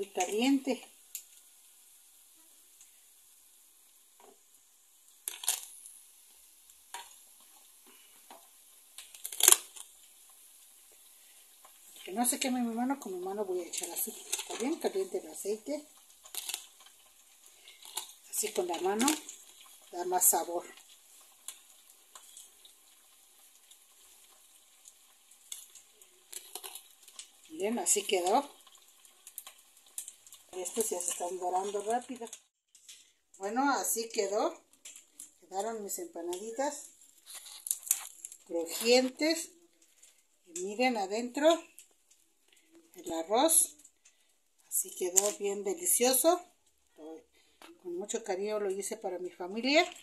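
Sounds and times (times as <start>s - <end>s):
oil sizzling in a frying pan: 0.0s - 50.0s.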